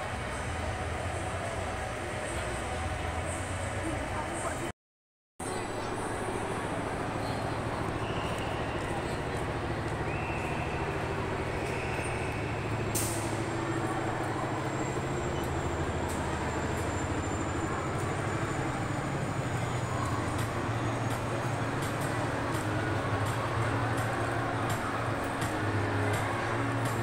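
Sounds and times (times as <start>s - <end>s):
crowd chatter: 0.0s - 4.7s, 5.4s - 27.0s
ride machinery hum: 0.0s - 4.7s, 5.4s - 27.0s.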